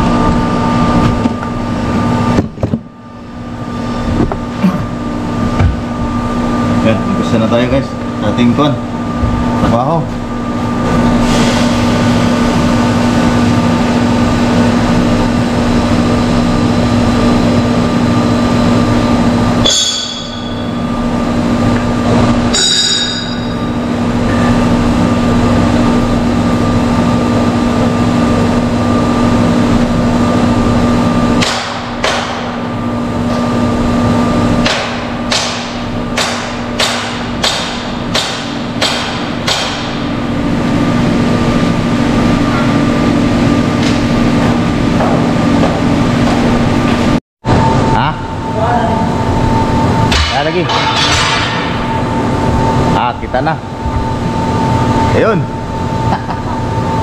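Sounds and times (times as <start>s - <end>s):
machinery drone: 0.0s - 57.0s.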